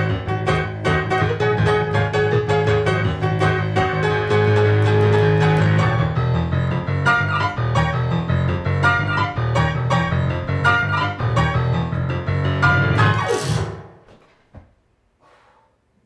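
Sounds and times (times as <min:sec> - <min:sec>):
solo digital piano: 0:00.0 - 0:13.6.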